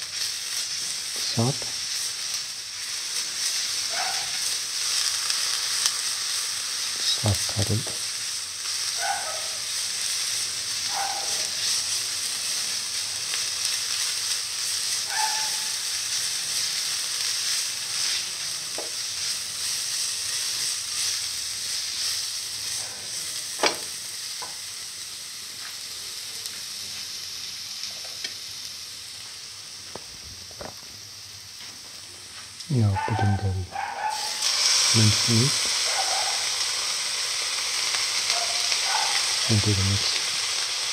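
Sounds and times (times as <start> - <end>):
onions sizzling in oil: 0.0 - 40.9.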